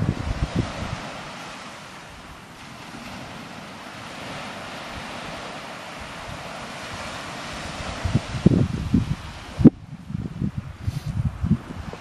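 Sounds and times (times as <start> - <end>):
small waves breaking on sand: 0.0 - 12.0
wind buffeting microphone: 0.0 - 12.0.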